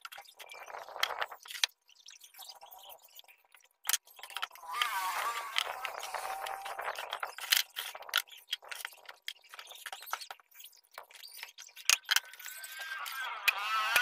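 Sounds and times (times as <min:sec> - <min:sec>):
plywood pieces clicking and knocking: 0:00.0 - 0:01.8, 0:03.8 - 0:14.0.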